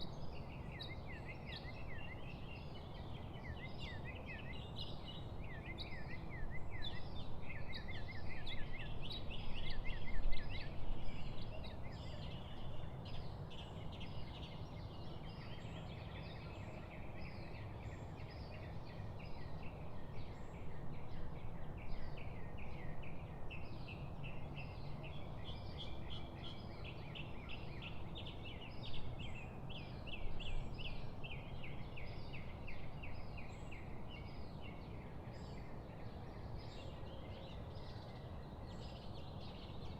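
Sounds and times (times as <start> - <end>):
low background hiss: 0.0 - 39.9
songbirds chirping and trilling: 0.0 - 39.9.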